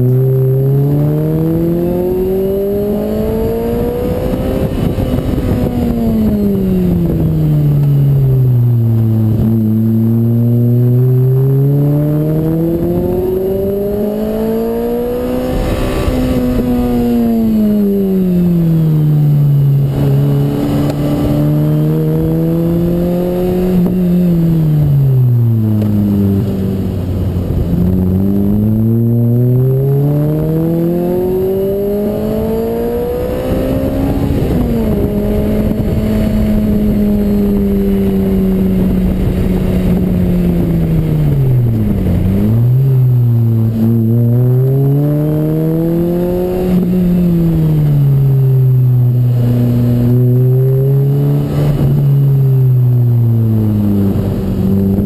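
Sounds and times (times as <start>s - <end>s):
car engine revving: 0.0s - 55.0s
wind noise: 0.0s - 55.0s.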